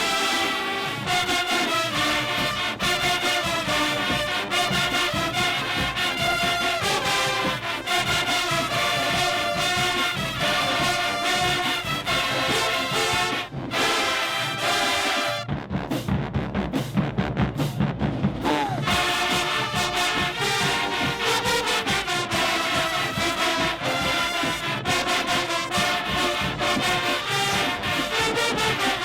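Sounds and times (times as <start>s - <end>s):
brass section playing: 0.0s - 29.0s
marching drumline: 0.0s - 29.0s.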